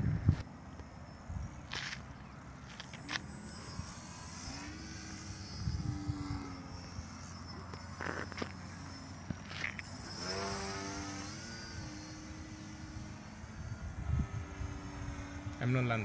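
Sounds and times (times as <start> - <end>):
model airplane propeller droning: 0.0 - 16.0
thin high whine: 0.0 - 16.0.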